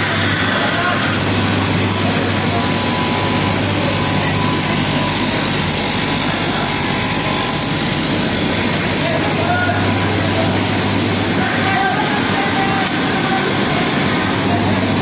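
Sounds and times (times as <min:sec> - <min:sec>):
fabric cutting machine running: 0:00.0 - 0:15.0.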